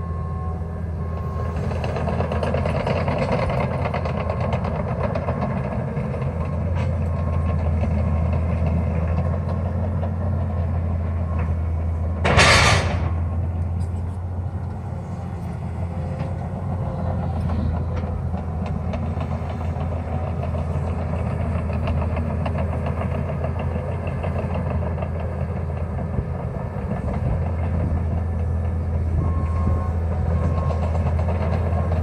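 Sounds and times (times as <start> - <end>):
heavy diesel engines rumbling: 0.0 - 32.0.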